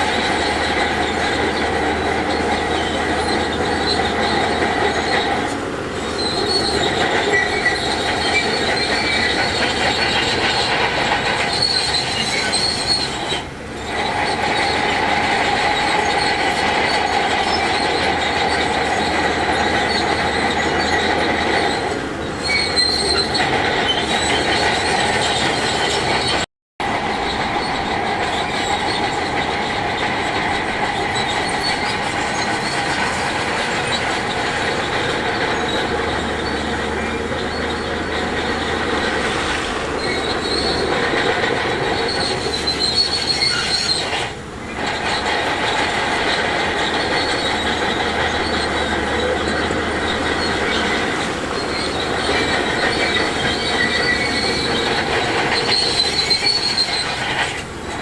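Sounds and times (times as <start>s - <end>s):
bulldozer tracks squealing and clanking: 0.0s - 58.0s
diesel engine: 0.0s - 58.0s.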